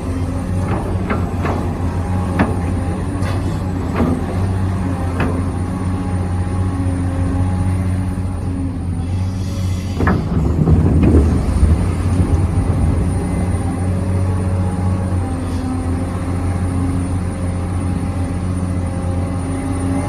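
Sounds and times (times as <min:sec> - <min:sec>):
model excavator humming: 0:00.0 - 0:20.0.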